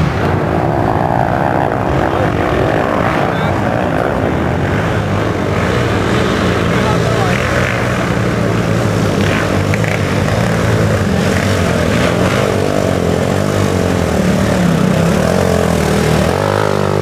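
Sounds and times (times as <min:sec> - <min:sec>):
quad engines running hard: 0:00.0 - 0:17.0.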